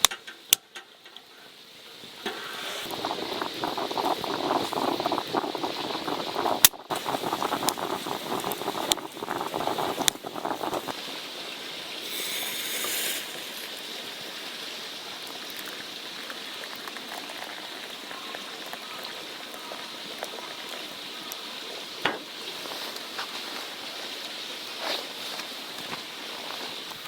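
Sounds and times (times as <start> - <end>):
water boiling in pot: 0.0 - 27.0.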